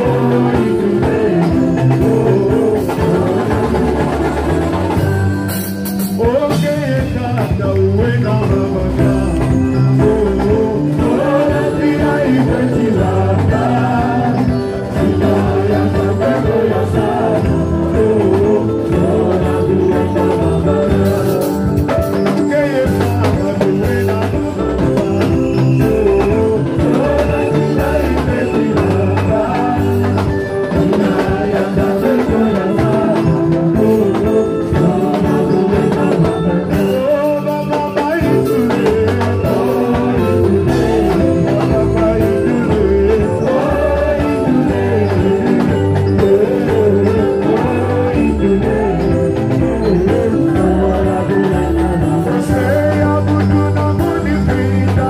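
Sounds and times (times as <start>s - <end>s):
people singing: 0.0s - 55.0s
worship band playing: 0.0s - 55.0s.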